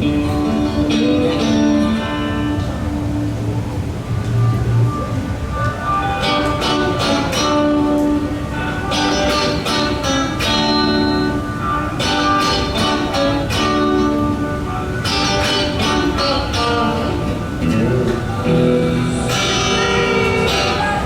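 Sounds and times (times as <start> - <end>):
guitar chords strummed: 0.0 - 21.0.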